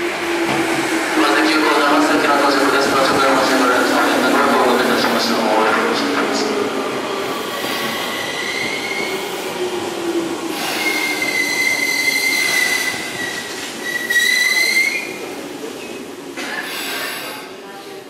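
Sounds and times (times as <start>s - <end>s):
train rolling and braking: 0.0s - 17.6s.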